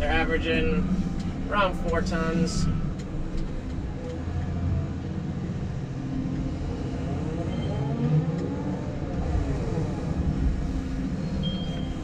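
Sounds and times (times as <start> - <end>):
excavator engine droning: 0.0 - 12.0.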